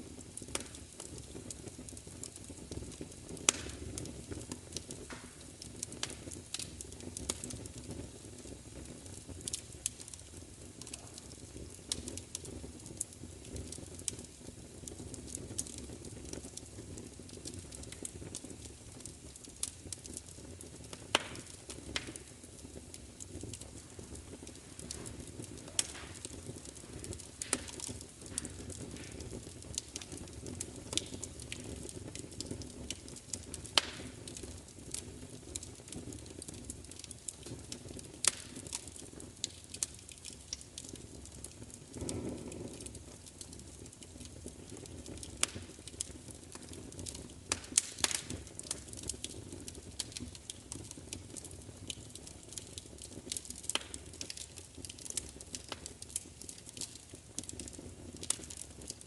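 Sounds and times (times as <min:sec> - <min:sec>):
wood fire crackling: 0:00.0 - 0:59.0
low whoosh of fire: 0:00.1 - 0:59.0.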